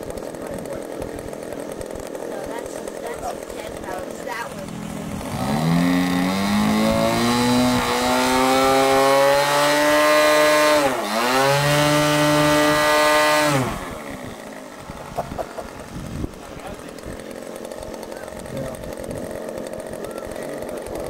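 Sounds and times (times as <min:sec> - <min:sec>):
model plane engine revving: 0:00.0 - 0:21.0.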